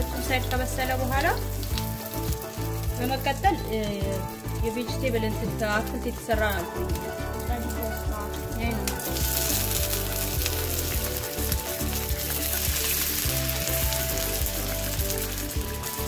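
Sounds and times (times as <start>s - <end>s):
broth sizzling in a hot pan: 0.0s - 16.0s.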